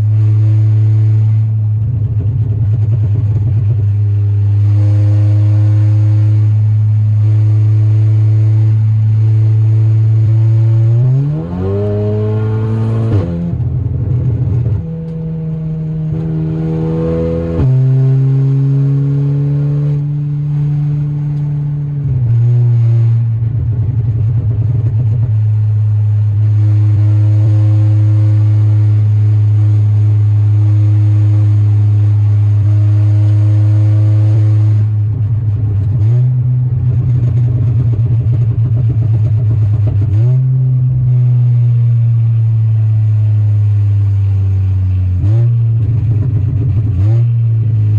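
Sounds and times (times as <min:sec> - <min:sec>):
turbocharged car engine revving: 0:00.0 - 0:47.9.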